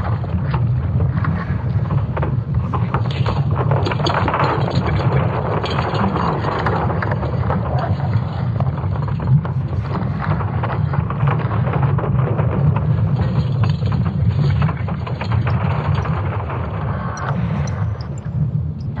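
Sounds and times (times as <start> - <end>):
deep rumble: 0.0 - 19.0
dense irregular crackling: 0.0 - 19.0.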